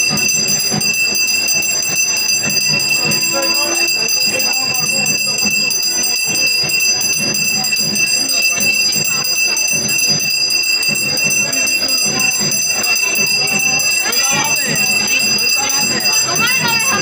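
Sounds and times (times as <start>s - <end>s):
brass hand bell ringing: 0.0s - 17.0s
busy background din: 0.0s - 17.0s.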